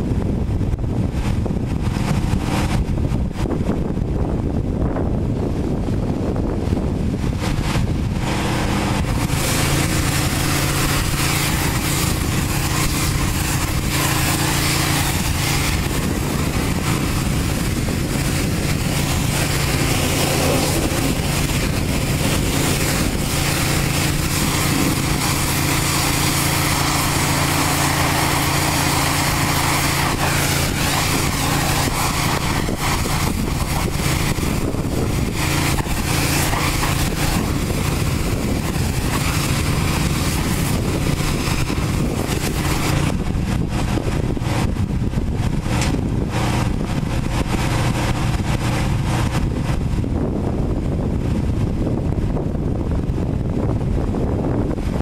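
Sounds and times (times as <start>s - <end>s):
washer motor and pump hum: 0.0s - 55.0s
high-pressure water hissing: 1.0s - 4.0s, 5.6s - 49.8s.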